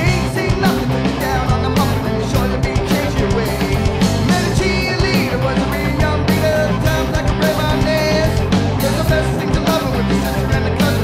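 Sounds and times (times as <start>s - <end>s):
drums: 0.0s - 11.0s
electric guitar: 0.0s - 11.0s
person singing: 0.0s - 11.0s.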